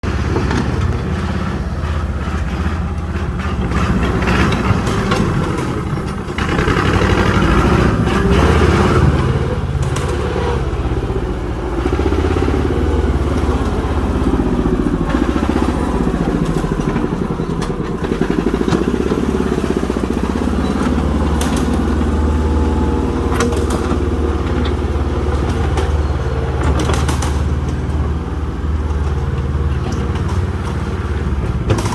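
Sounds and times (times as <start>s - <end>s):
heavy diesel engine under load: 0.0s - 31.9s.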